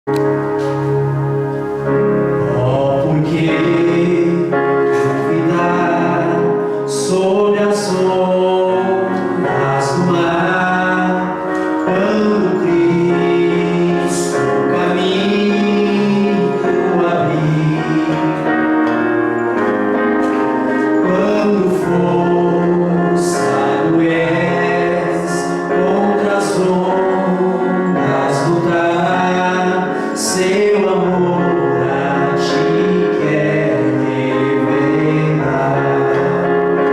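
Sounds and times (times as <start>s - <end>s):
organ accompaniment: 0.0s - 36.9s
mixed voices singing a hymn: 2.4s - 36.9s.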